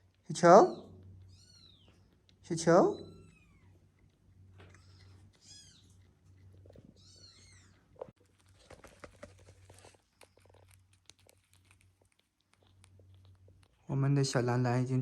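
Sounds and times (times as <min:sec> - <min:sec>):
kittens suckling: 0:00.0 - 0:14.4.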